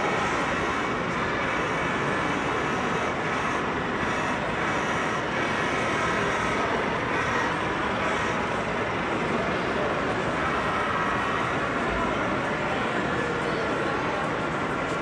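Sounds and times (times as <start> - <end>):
busy exhibition hall din: 0.0 - 15.0.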